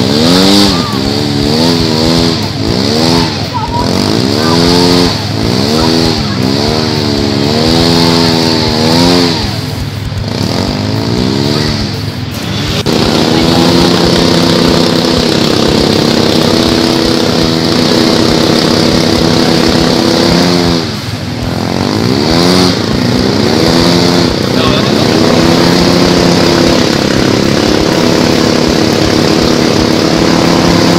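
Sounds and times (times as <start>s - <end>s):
utility vehicle engine revving: 0.0s - 30.9s.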